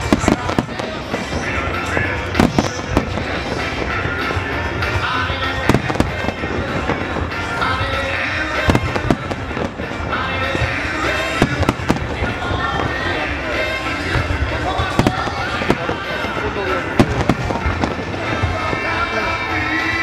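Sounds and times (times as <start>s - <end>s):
fireworks bangs and crackles: 0.0s - 20.0s
music: 0.0s - 20.0s.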